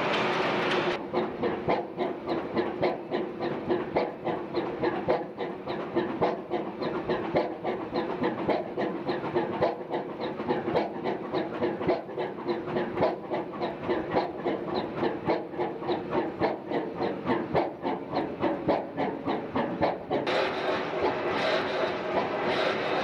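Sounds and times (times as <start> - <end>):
gas engines clattering: 0.0 - 23.0
steady engine hum: 0.0 - 23.0.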